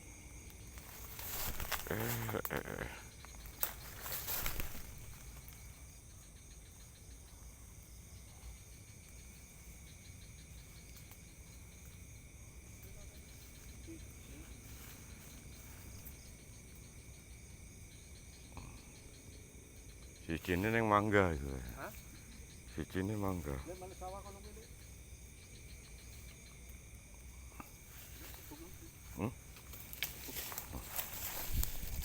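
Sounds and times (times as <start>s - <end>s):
crickets chirring: 0.0s - 32.0s.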